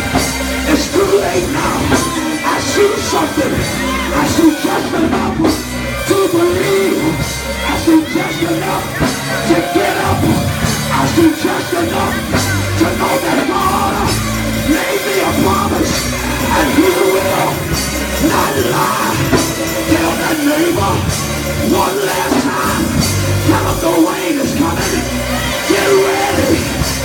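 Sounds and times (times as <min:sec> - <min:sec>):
gospel band playing: 0:00.0 - 0:27.0
man singing and shouting: 0:00.0 - 0:27.0.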